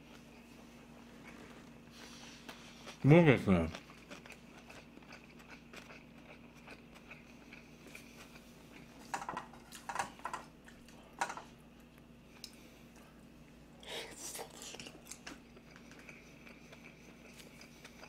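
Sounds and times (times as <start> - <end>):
faint steady hum: 0.0 - 18.0
person chewing food: 1.1 - 3.0, 3.6 - 13.3, 14.0 - 18.0.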